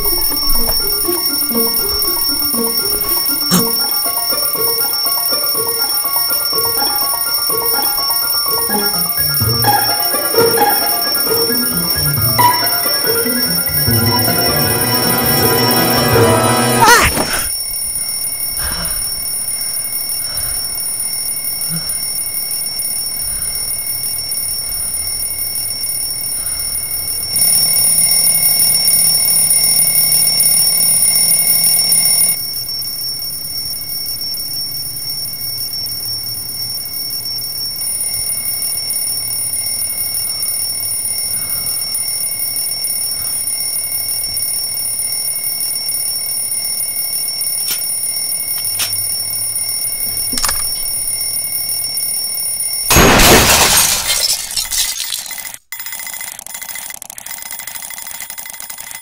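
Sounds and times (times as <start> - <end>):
alarm clock ringing: 0.0 - 33.5, 37.1 - 52.9.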